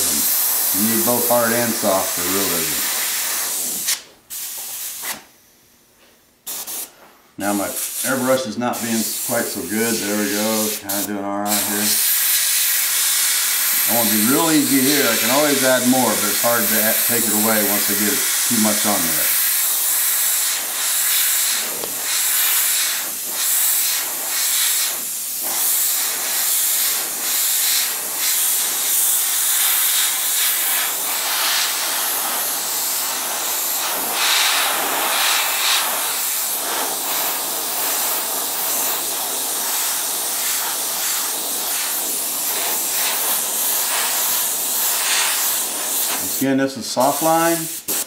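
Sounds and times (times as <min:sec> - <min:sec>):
airbrush hissing: 0:00.0 - 0:05.2, 0:06.4 - 0:48.0.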